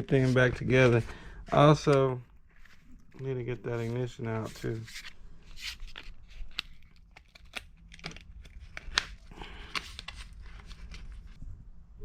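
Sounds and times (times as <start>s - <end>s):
packaging crinkling and rustling: 0.0s - 11.4s.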